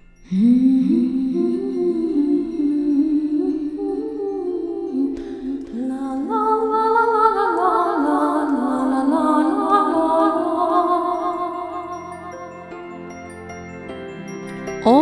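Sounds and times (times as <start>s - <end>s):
lullaby-like wordless vocal music: 0.0s - 15.0s.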